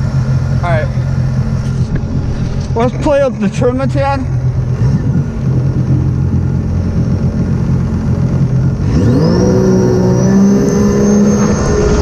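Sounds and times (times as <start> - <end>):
jet ski engine revving: 0.0 - 12.0
supercharger whine: 0.0 - 12.0.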